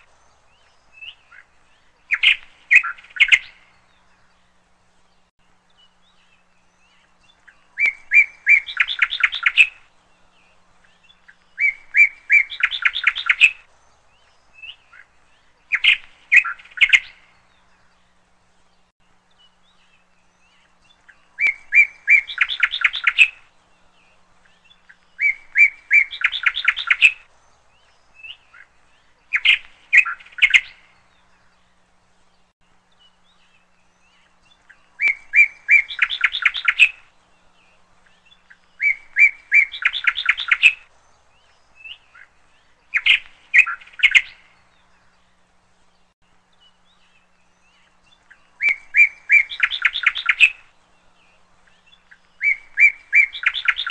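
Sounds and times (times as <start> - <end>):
bird singing with trill: 0.0 - 53.9.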